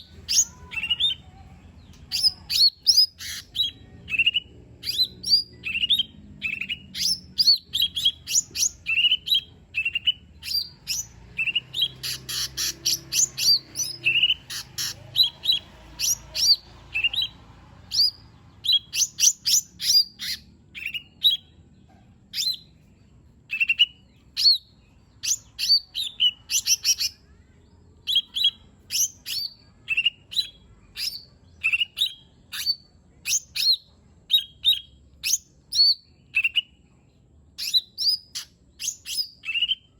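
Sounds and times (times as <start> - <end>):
bird chirping and whistling: 2.1 - 21.5, 23.5 - 27.2, 28.1 - 36.7, 37.6 - 39.9.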